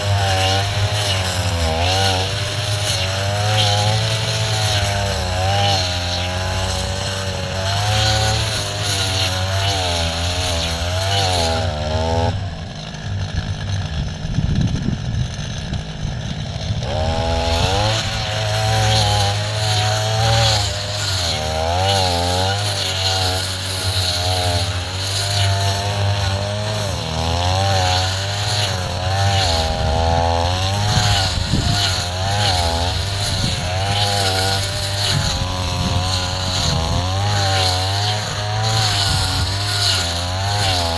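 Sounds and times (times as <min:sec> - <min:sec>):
brush cutter engine revving: 0:00.0 - 0:40.9.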